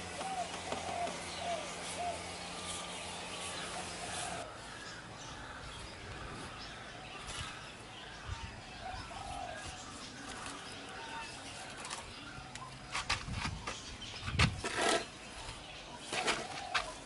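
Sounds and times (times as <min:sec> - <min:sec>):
doves cooing: 0:00.0 - 0:17.0
small birds chirping: 0:00.0 - 0:17.0.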